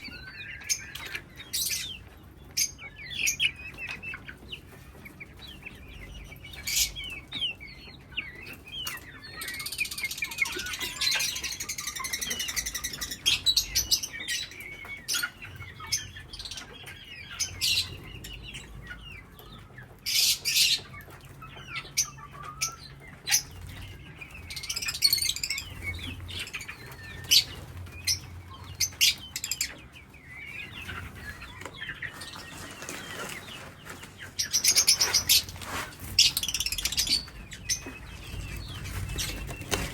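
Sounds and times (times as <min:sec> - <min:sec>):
parrots chirping and calling: 0:00.0 - 0:39.9.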